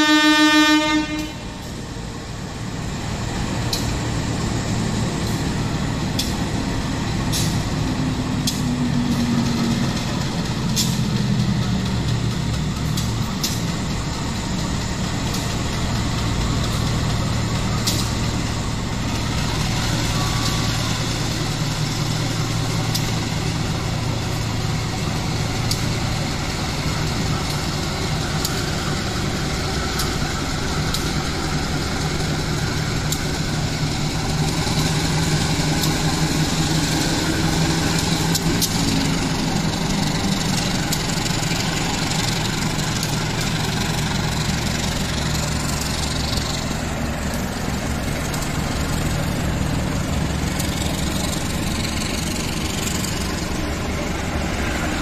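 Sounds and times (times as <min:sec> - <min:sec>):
train hum: 0:00.0 - 0:55.0
wheels on rails: 0:01.6 - 0:55.0.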